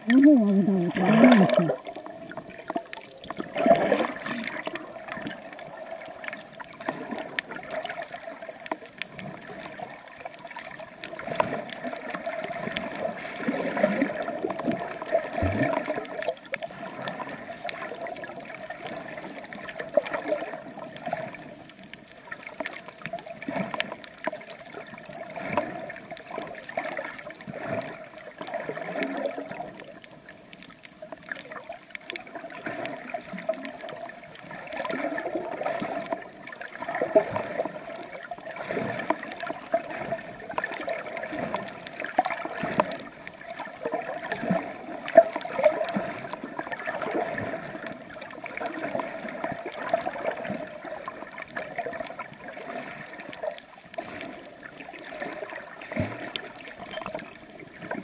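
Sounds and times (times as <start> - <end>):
seawater sloshing and gurgling: 0.0 - 58.0.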